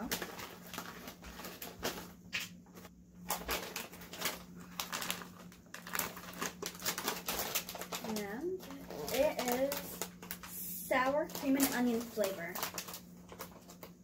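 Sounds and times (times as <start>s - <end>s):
foil snack bag crinkling: 0.0s - 14.0s.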